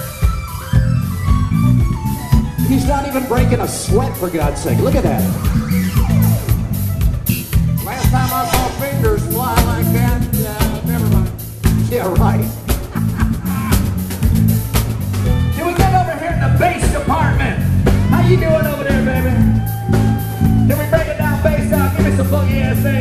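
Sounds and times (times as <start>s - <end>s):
drum kit: 0.0s - 23.0s
electric bass line: 0.0s - 23.0s
funk band playing: 0.0s - 23.0s.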